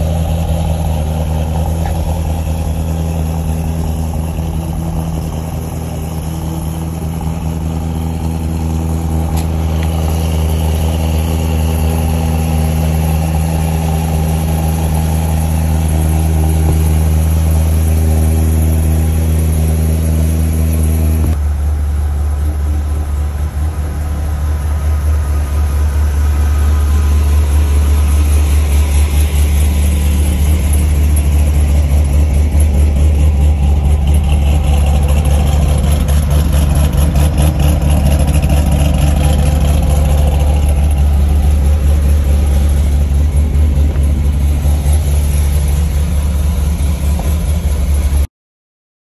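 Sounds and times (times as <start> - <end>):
car engine idling: 0.0 - 48.3.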